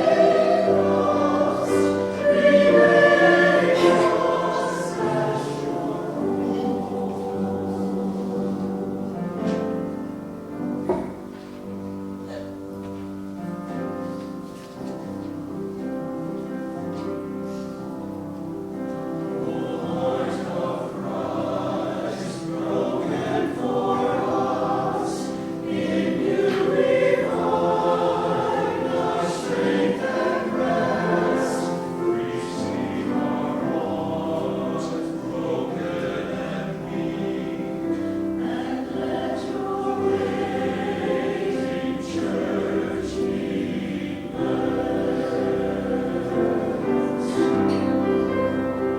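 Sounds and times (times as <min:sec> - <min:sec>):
choir singing: 0:00.0 - 0:12.5, 0:14.9 - 0:48.9
instrumental accompaniment: 0:00.0 - 0:48.9.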